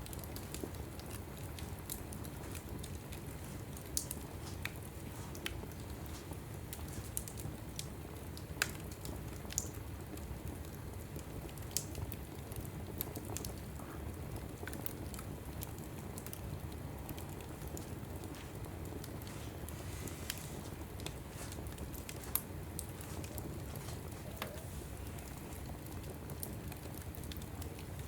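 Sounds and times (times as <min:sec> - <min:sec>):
logs crackling and popping: 0:00.0 - 0:28.0
low rumble of fire: 0:00.0 - 0:28.0.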